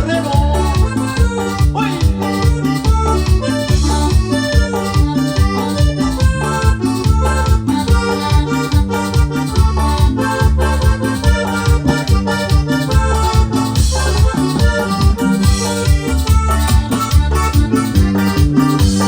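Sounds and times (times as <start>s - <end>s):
cumbia on electronic keyboard: 0.0s - 19.0s.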